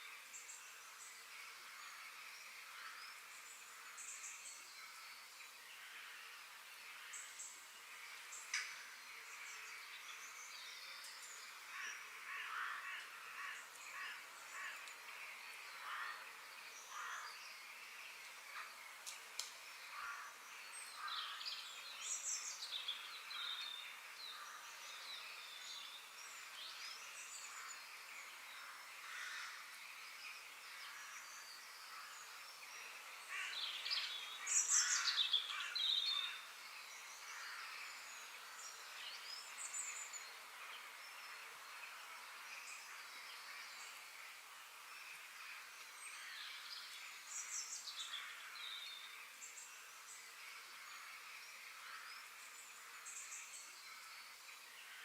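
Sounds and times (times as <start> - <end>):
outdoor hiss: 0.0 - 55.0
birds singing and chirping: 0.1 - 55.0.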